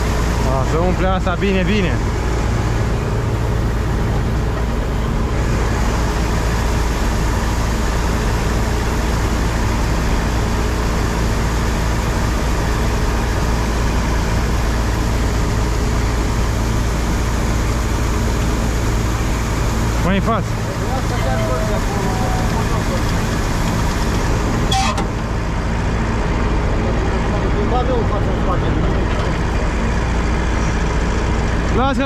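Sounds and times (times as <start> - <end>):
low engine drone: 0.0 - 32.0
threshing machinery noise: 0.0 - 32.0.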